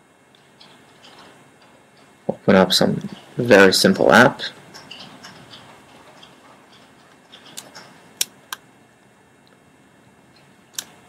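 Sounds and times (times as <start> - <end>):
faint room hiss: 0.0 - 11.0.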